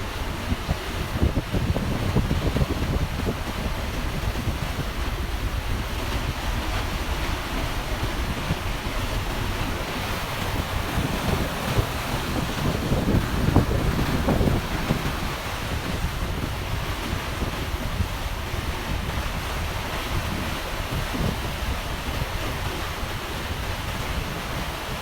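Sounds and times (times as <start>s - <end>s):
rushing water: 0.0s - 25.0s
wind buffeting microphone: 0.0s - 25.0s.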